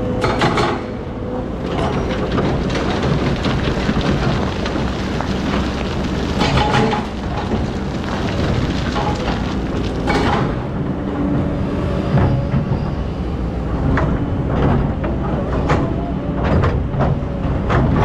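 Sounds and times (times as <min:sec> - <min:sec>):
excavator diesel engine running: 0:00.1 - 0:18.0.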